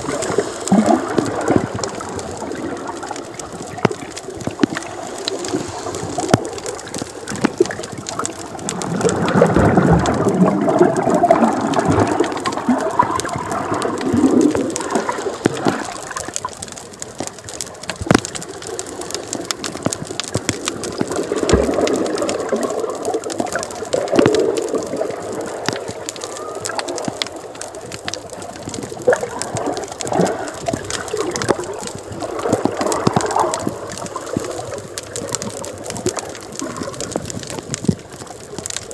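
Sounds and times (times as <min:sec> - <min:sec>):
muffled underwater rushing: 0:00.0 - 0:38.9.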